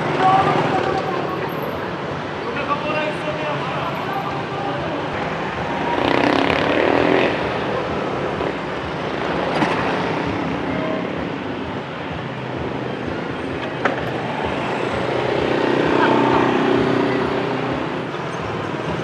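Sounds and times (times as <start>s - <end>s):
motorbikes and cars passing: 0.0s - 19.0s.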